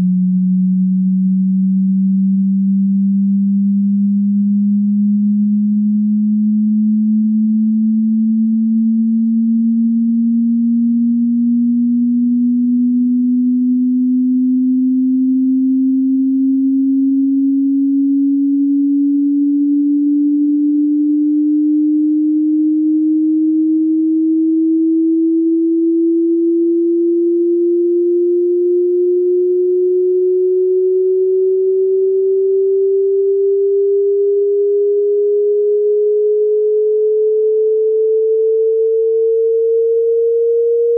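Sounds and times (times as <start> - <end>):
sine tone rising in pitch: 0.0 - 40.9.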